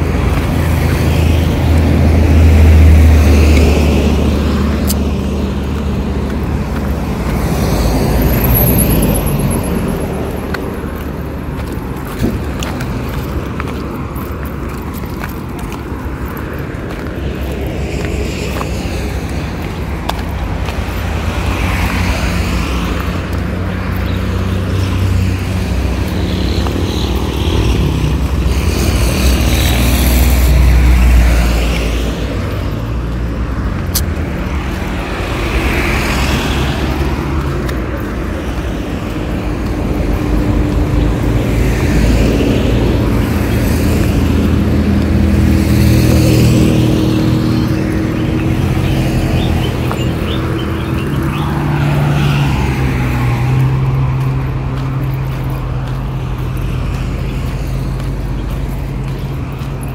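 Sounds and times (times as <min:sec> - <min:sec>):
cars passing on highway: 0:00.0 - 0:59.9
low traffic rumble: 0:00.0 - 0:59.9.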